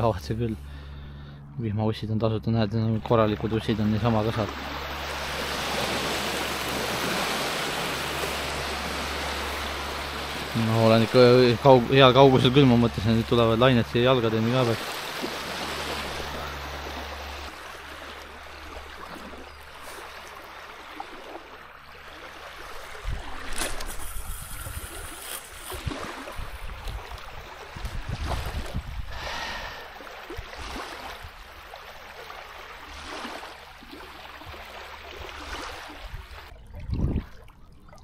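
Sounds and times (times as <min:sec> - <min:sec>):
small waves lapping on sand: 0:03.1 - 0:36.5.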